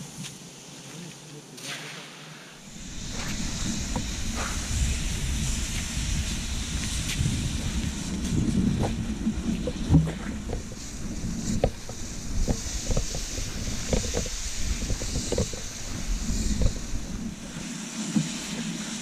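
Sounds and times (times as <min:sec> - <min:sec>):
sled runners scraping on ice: 0:02.6 - 0:19.0
wind buffeting microphone: 0:02.6 - 0:19.0.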